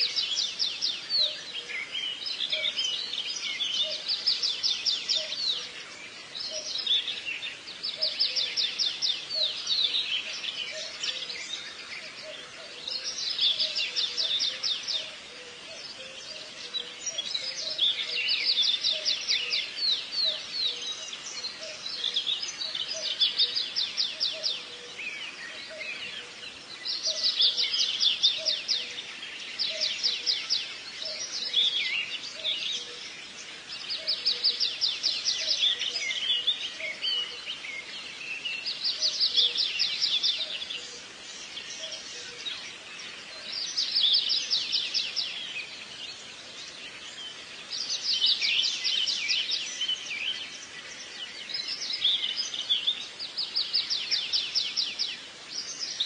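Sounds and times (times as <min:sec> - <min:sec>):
songbird trilling and chirping: 0:00.0 - 0:56.0.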